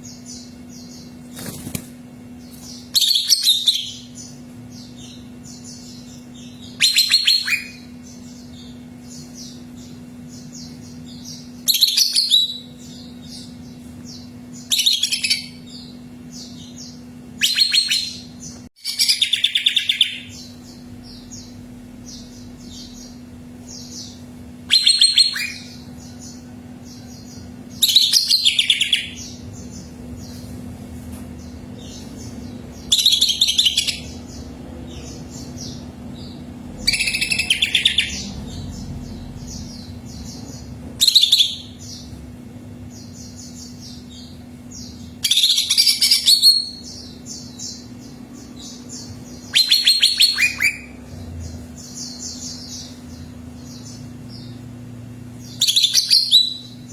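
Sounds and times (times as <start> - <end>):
soft bird chirping: 0.0 - 56.9
steady low hum: 0.0 - 56.9
bird singing high-pitched phrases: 2.8 - 30.0, 31.5 - 42.2, 42.8 - 54.7, 55.3 - 56.9.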